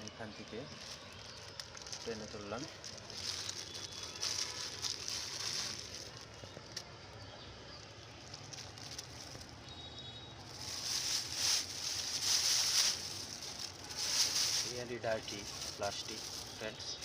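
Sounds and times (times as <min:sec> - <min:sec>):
plastic sheet crackling rustle: 0:00.4 - 0:06.8, 0:07.8 - 0:09.7, 0:10.4 - 0:17.0.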